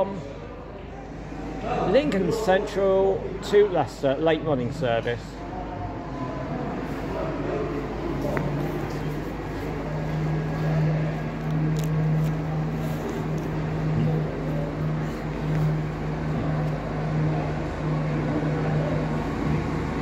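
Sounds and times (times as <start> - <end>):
diesel train engine drone: 0.0 - 20.0.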